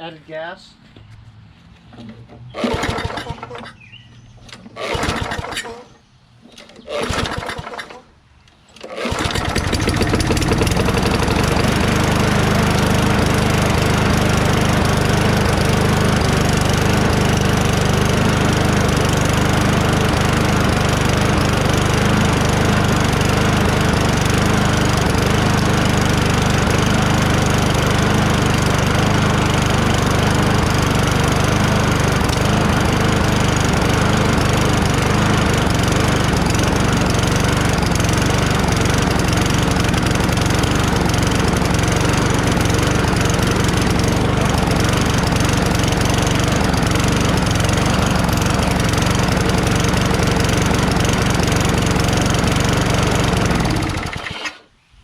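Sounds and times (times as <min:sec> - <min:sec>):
lawn mower engine starting and running: 0:00.9 - 0:54.9.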